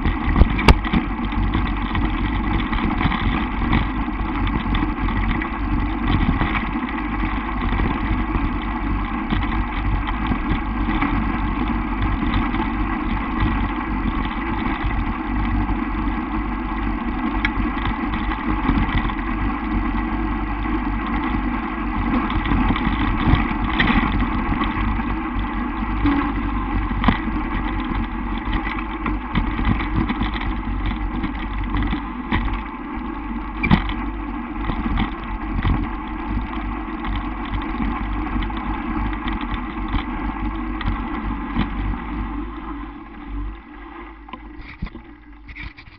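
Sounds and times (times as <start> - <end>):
wind buffeting microphone: 0.0 - 43.8
bike rattles and knocks: 0.0 - 45.9.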